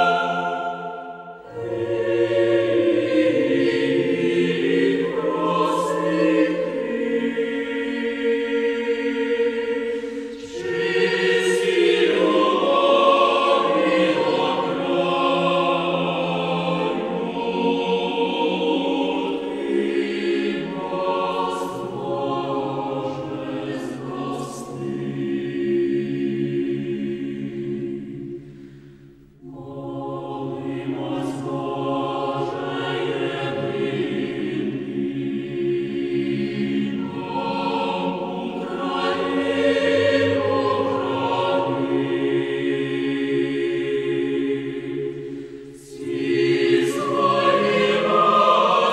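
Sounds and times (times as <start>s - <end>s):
choir singing held chords: 0.0s - 48.9s.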